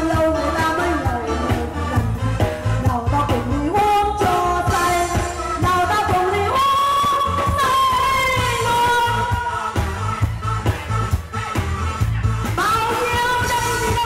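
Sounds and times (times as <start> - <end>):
backing band bass and drums: 0.0 - 14.0.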